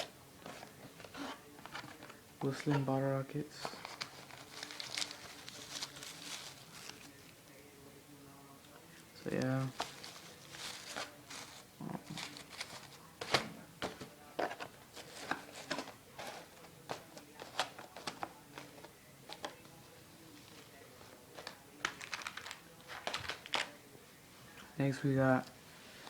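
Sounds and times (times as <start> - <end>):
packaging clicks and rustles: 0.0 - 2.9, 3.5 - 7.2, 9.3 - 23.8.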